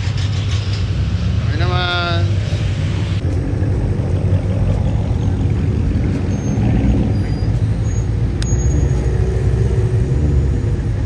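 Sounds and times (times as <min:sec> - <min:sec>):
car engines rumbling: 0:00.0 - 0:11.0.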